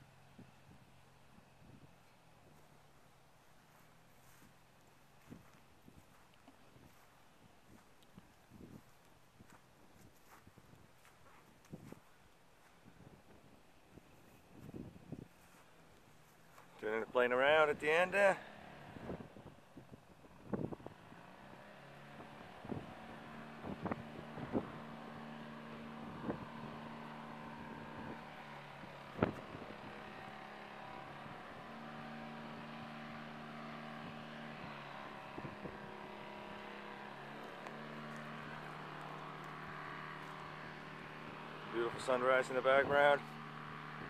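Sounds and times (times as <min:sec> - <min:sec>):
distant light aircraft droning: 0:00.0 - 0:44.0.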